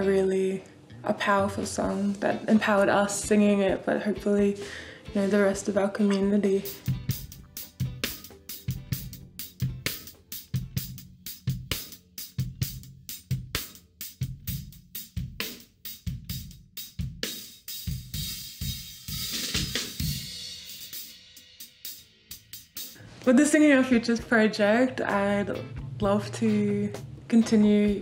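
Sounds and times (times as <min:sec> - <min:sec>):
drum kit steady beat: 0:01.6 - 0:28.0.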